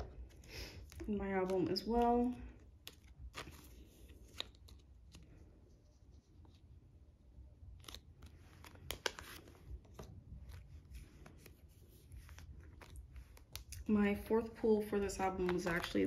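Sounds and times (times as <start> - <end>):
plastic sleeve rustling: 0.0 - 6.8, 7.6 - 13.9.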